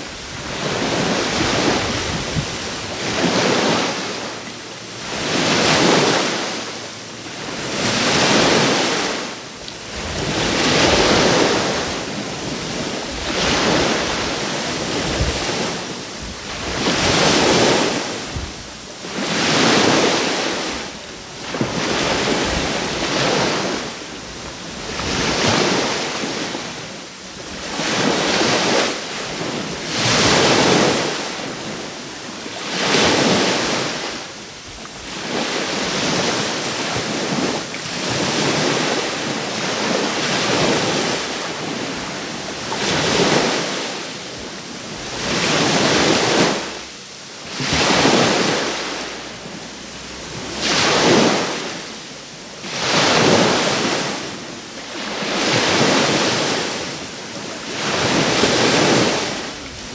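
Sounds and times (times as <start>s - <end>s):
small waves breaking on shore: 0.0s - 59.9s.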